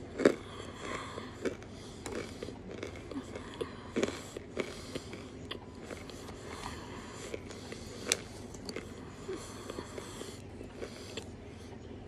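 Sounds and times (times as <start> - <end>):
person chewing chalk: 0.0 - 11.4.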